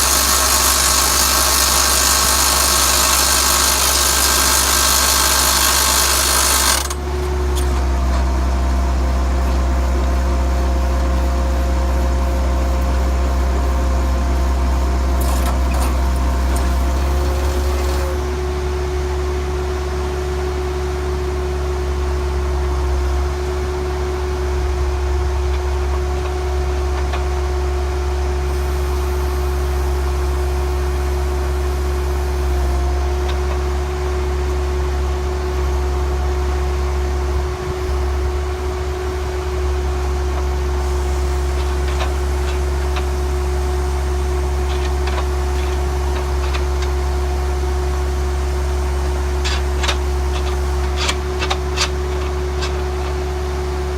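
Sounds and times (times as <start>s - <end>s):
diesel engine running: 0.0s - 53.9s
high engine whine: 0.0s - 53.9s.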